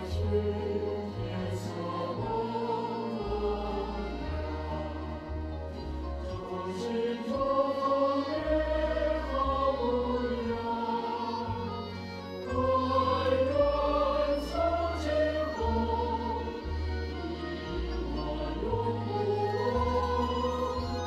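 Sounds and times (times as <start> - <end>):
choir singing held notes: 0.0 - 21.0.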